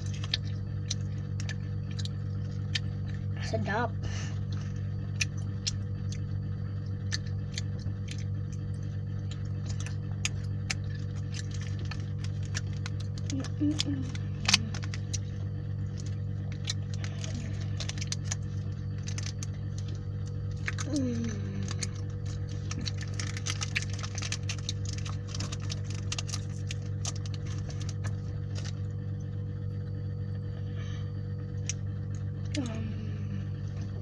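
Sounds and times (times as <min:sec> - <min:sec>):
chewing clicks and crackles: 0:00.0 - 0:03.4, 0:04.4 - 0:29.3, 0:31.5 - 0:32.7
falling hum-like voice: 0:00.0 - 0:34.0
steady low hum: 0:00.0 - 0:34.0.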